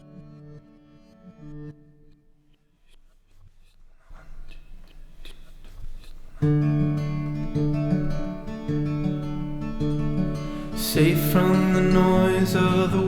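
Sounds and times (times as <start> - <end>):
plucked acoustic guitar: 0.0 - 2.2, 4.5 - 13.0.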